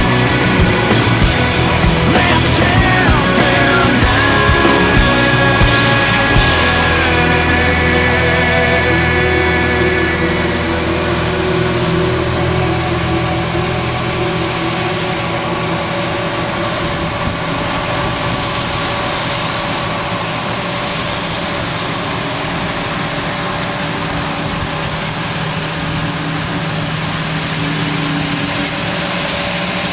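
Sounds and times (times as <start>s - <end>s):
dense rushing noise: 0.0s - 29.9s
farm machinery engine running: 0.0s - 29.9s.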